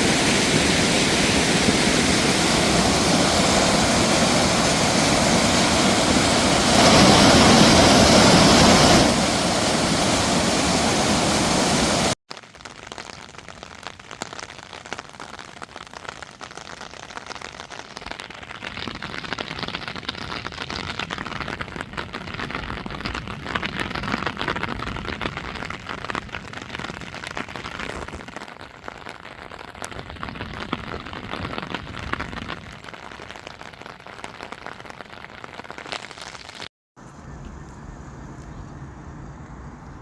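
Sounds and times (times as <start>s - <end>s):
heavy rain pattering: 0.0s - 36.7s.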